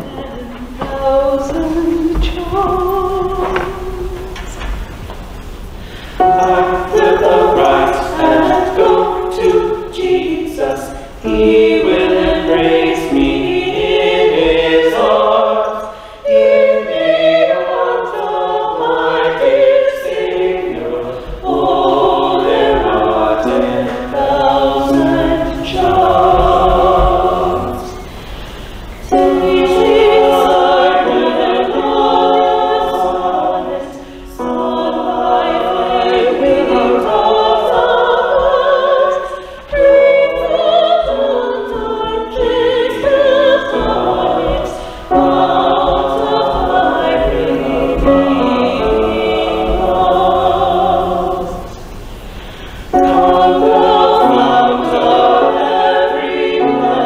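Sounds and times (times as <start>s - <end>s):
mixed choir singing a hymn: 0.0s - 57.0s.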